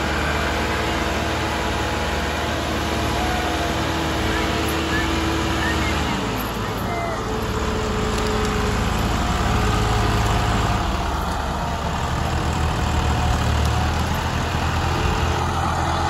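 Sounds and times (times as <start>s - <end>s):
tractor diesel engines rumbling: 0.0s - 16.0s.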